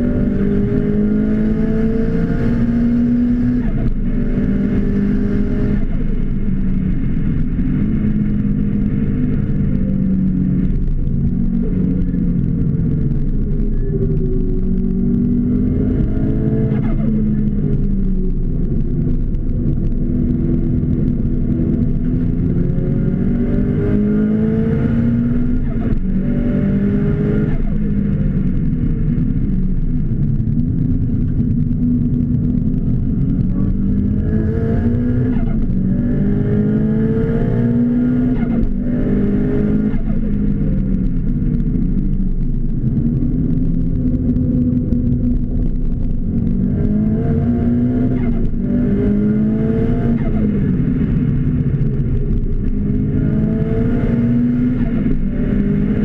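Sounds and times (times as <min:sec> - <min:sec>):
car engine revving through gears: 0:00.0 - 0:56.0
steady low rumble: 0:00.0 - 0:56.0.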